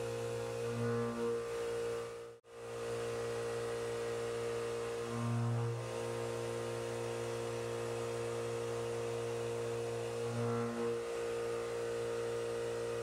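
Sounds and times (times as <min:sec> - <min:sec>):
machine spindle humming: 0:00.0 - 0:13.0.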